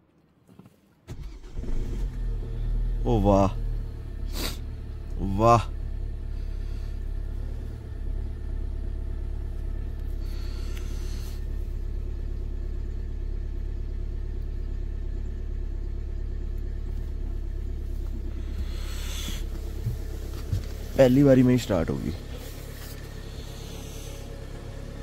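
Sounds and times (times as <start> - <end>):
car engine idling: 1.1 - 25.0.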